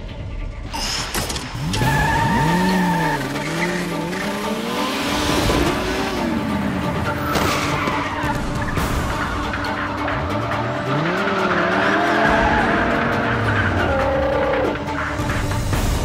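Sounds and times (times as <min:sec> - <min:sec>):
tyres skidding: 0:00.8 - 0:16.0
car engine revving: 0:01.5 - 0:16.0.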